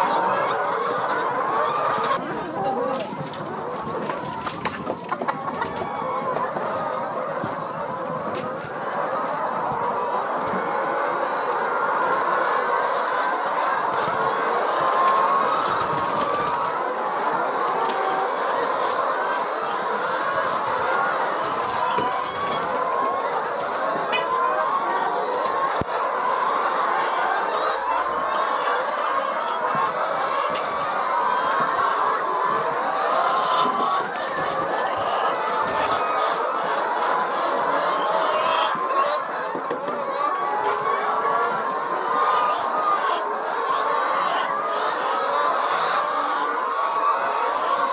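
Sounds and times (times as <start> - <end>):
hens clucking: 0.0 - 47.9.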